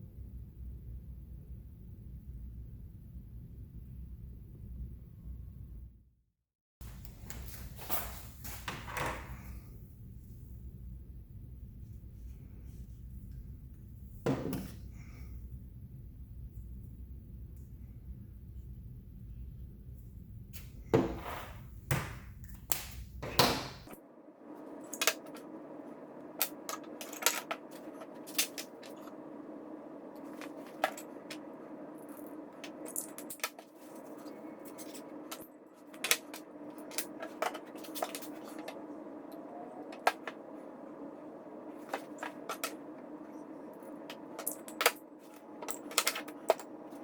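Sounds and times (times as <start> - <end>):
steady low hum: 6.8 - 47.0.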